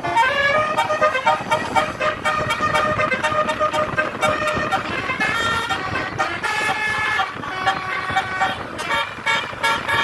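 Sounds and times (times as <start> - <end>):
multi-tone bus air horns: 0.0 - 10.0.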